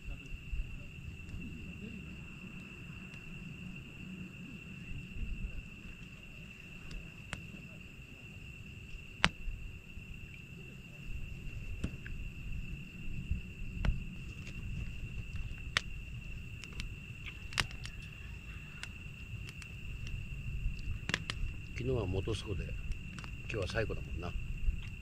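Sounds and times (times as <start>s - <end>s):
campfire crackling: 0.0s - 25.0s
crickets trilling: 0.0s - 25.0s.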